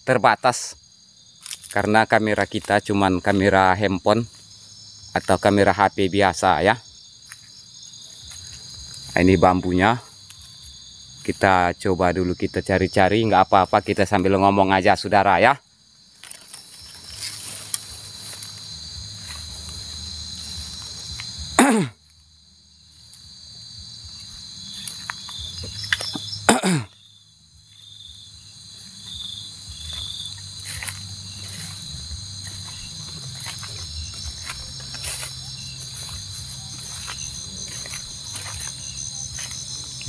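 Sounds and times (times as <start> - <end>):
crickets and insects trilling: 0.0 - 40.0
rustles and clicks in undergrowth: 0.1 - 40.0.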